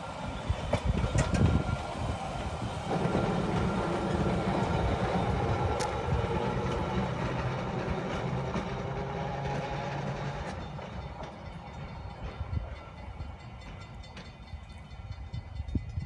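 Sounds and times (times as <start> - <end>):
trolley wheels rumbling on rails: 0.0 - 16.0.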